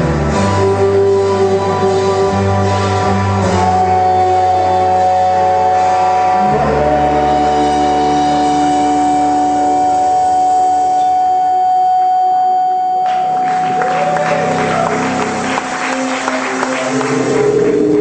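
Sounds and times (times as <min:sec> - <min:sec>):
rock band playing droning chords: 0:00.0 - 0:18.0.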